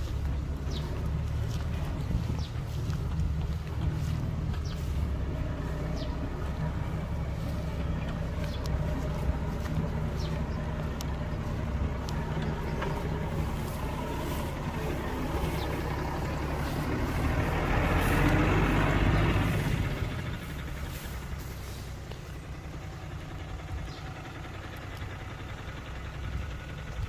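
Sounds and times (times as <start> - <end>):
diesel construction machinery running: 0.0 - 27.0.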